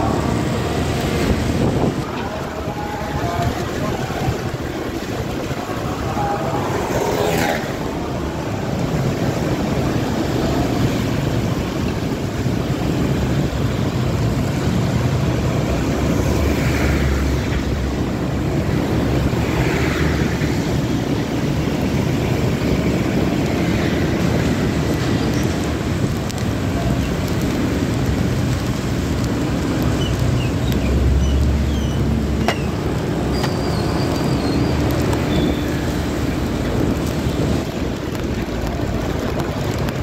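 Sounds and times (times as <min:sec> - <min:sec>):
passing traffic: 0:00.0 - 0:40.0
wind rumble on microphone: 0:00.0 - 0:40.0.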